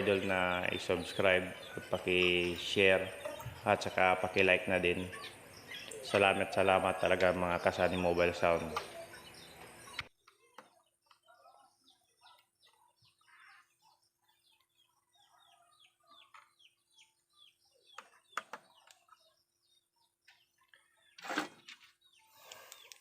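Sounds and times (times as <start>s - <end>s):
faint bird chirping: 0.0s - 23.0s.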